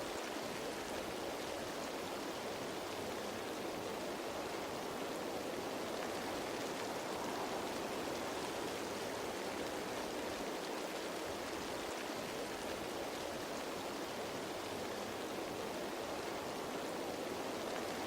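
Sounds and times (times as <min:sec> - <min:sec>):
rain falling on leaves: 0:00.0 - 0:18.0.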